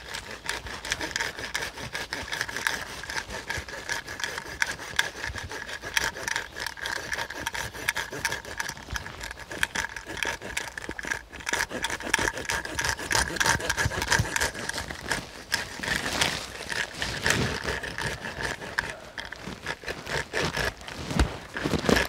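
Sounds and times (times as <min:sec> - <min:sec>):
spruce needles rustling: 0:00.0 - 0:22.0
twigs scraping and cracking: 0:00.0 - 0:22.0.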